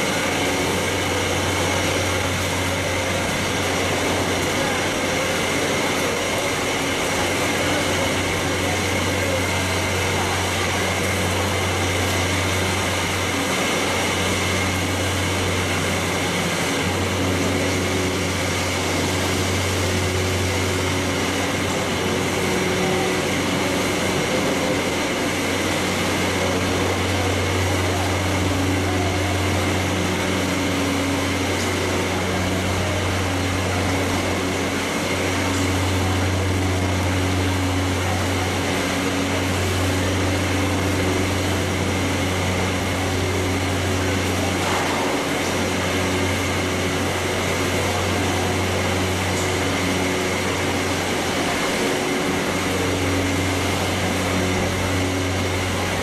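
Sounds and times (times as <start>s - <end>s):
processing line machinery din: 0.0s - 56.0s.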